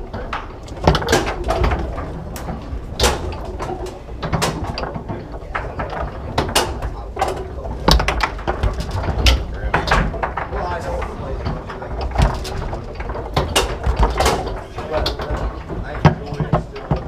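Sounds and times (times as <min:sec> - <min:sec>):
foosball ball knocking and clacking: 0:00.0 - 0:17.0.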